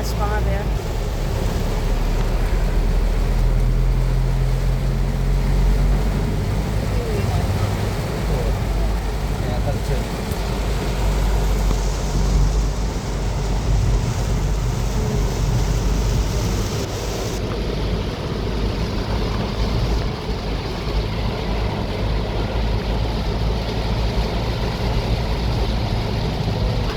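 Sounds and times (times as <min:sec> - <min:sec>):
car rumbling: 0:00.0 - 0:26.9
rain hissing: 0:00.0 - 0:26.9
tyres throwing up water: 0:00.0 - 0:26.9.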